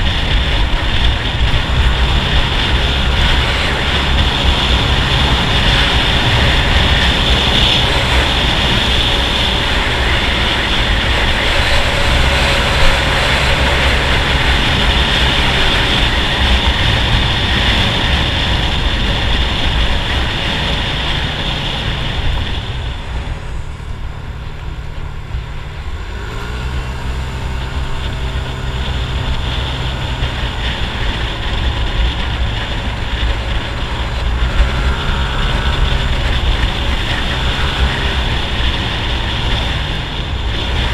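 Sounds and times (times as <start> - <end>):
scooter engine running: 0.0 - 40.9
wind rush on microphone: 0.0 - 40.9.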